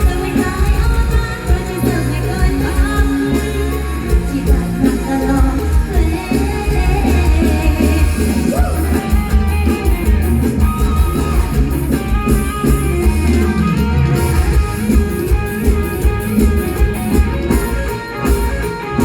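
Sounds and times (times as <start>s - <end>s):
bending melody line: 0.0s - 19.0s
guitar: 0.0s - 19.0s
pulsing bass and drum beat: 0.0s - 19.0s.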